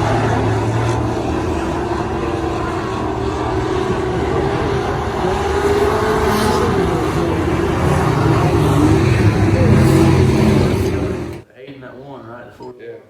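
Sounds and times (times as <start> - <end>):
race car engine droning: 0.0 - 11.4.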